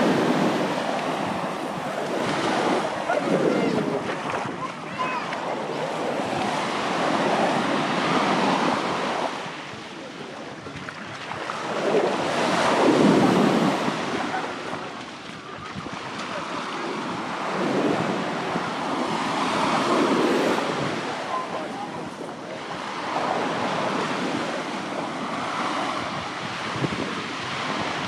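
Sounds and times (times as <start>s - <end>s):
sea waves breaking on beach: 0.0s - 28.0s
wind on microphone: 0.0s - 28.0s.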